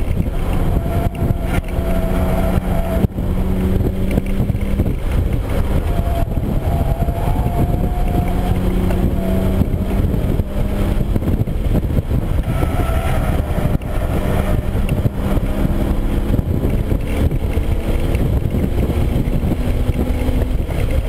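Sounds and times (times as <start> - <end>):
car engine accelerating: 0.0 - 21.0
road rumble: 0.0 - 21.0.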